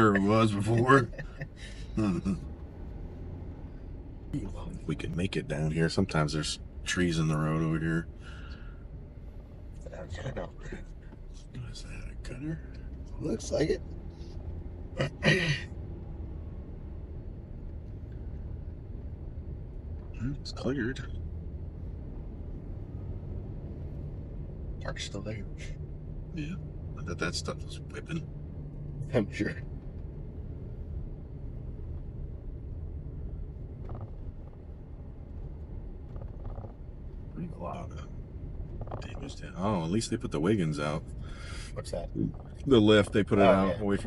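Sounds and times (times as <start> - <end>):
vehicle rumbling along road: 0.0 - 44.0.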